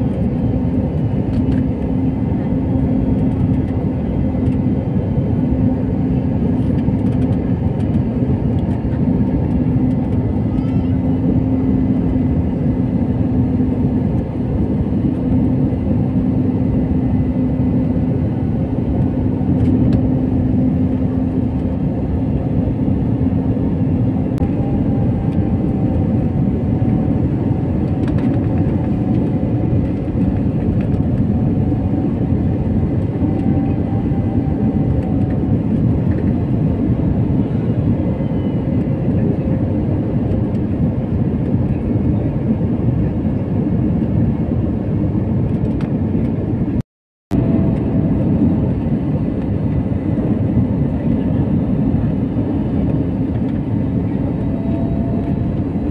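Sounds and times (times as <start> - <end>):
jet cabin engine and airflow noise: 0.0 - 55.9.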